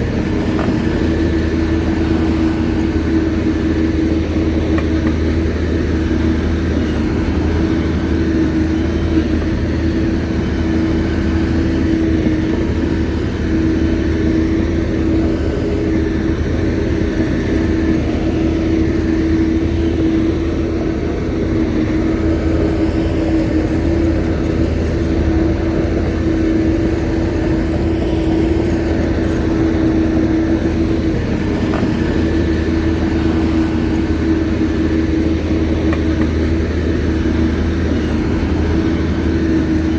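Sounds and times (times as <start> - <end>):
bulldozer diesel engine running: 0.0 - 39.9
steady whine: 0.0 - 39.9.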